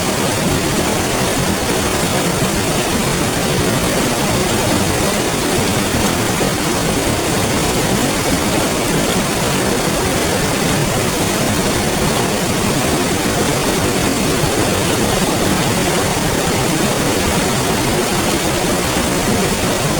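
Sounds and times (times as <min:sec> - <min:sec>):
river water flowing: 0:00.0 - 0:19.9.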